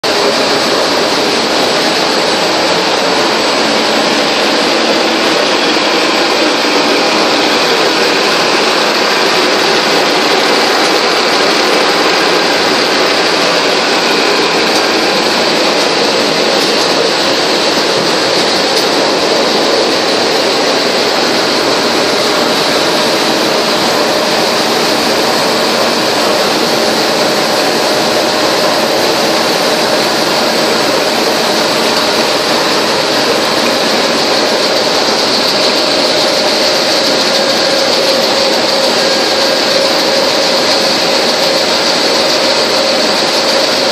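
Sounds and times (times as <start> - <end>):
production line machinery hiss: 0.0 - 43.9.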